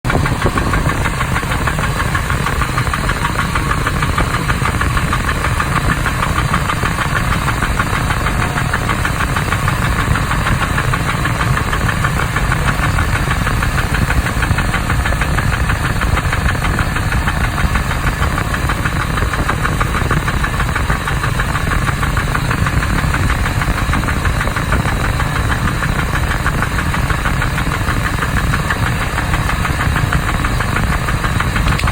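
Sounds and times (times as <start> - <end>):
engine running with rapid knocking: 0.0 - 31.9.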